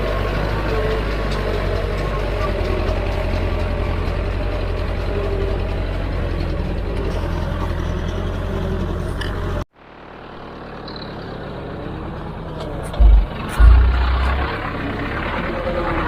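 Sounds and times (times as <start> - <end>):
diesel machinery engine rumbling: 0.0 - 16.0
quieter engine: 0.0 - 16.0.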